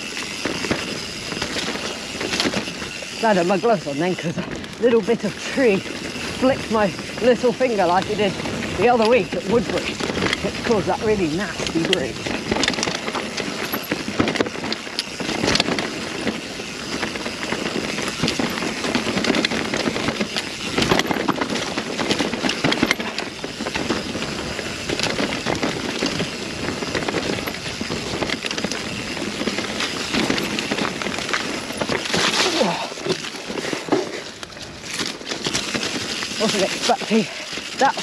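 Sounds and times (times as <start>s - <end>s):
bike rattling and knocking: 0.0s - 38.0s
bike tyres rushing on dirt: 0.0s - 38.0s.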